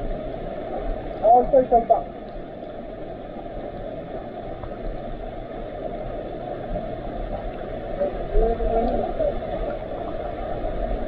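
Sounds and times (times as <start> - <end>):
muffled underwater stream rush: 0.0 - 11.0.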